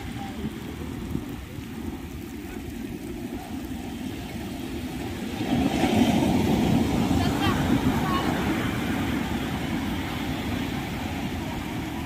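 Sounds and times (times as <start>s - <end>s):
breaking surf: 0.0s - 2.3s, 3.0s - 12.0s
wind buffeting microphone: 0.0s - 12.0s.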